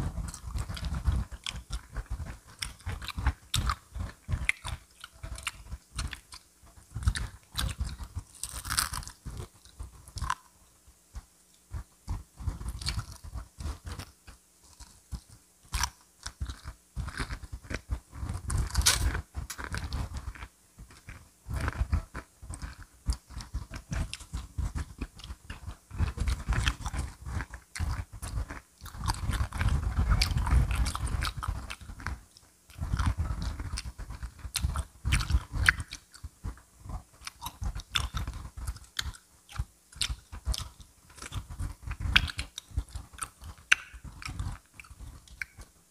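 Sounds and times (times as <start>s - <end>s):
fried chicken crunching while chewed: 0.0s - 10.5s, 12.1s - 45.7s.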